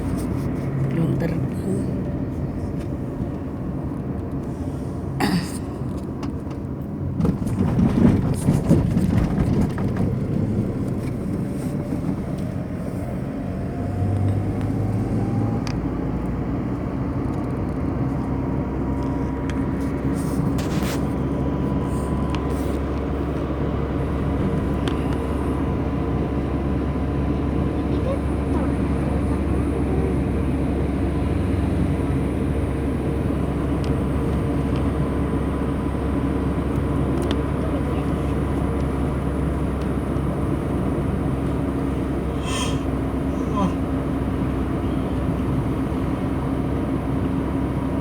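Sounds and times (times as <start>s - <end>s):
engine rumble: 0.0s - 48.0s.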